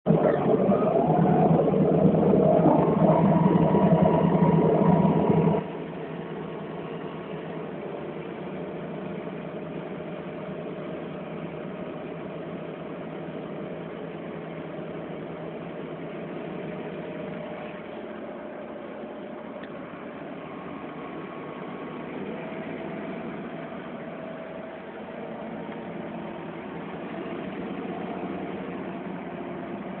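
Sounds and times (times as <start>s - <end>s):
diesel tractor engine under load: 0.0s - 30.0s.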